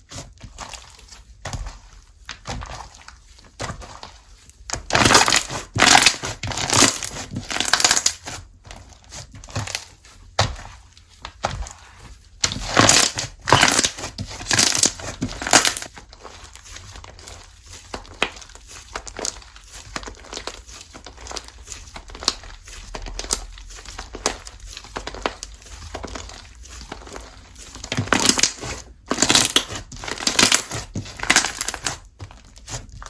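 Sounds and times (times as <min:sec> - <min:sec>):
slime squished by hand: 0:00.0 - 0:33.0.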